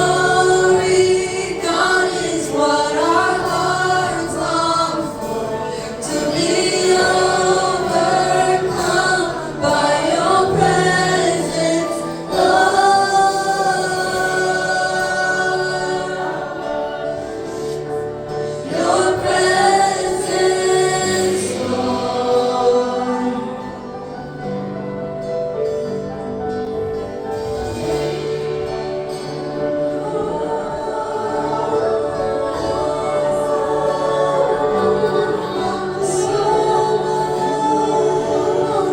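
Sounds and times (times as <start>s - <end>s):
choir singing gospel song: 0.0s - 25.1s, 27.4s - 38.9s.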